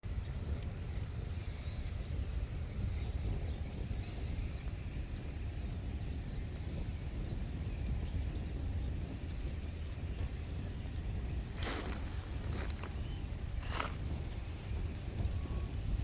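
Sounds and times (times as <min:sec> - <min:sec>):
low wind rumble: 0:00.0 - 0:16.0
small birds chirping: 0:00.1 - 0:16.0.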